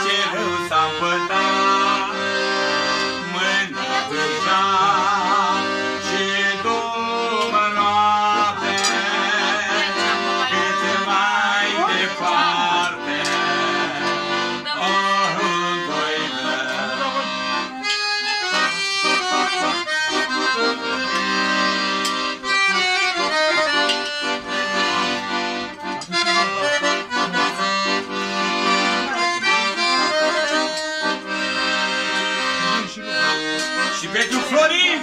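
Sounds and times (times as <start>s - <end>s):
accordions playing a tune: 0.0s - 35.0s.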